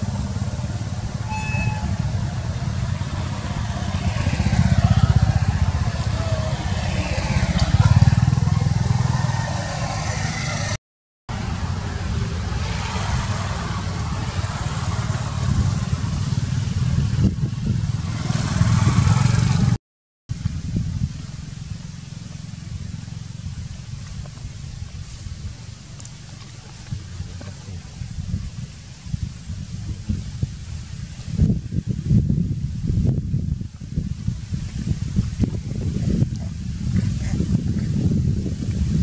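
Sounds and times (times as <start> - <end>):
motorbikes passing: 0.0 - 39.0
steady low traffic rumble: 0.0 - 39.0.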